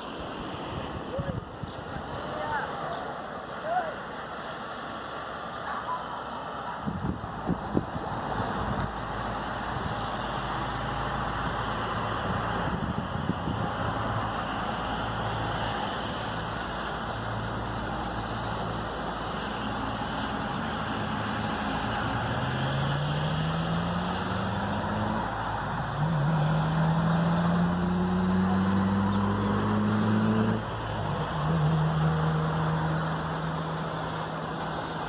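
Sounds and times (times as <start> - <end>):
distant vehicle engine: 0.0 - 35.0
traffic and wind hiss: 0.0 - 35.0.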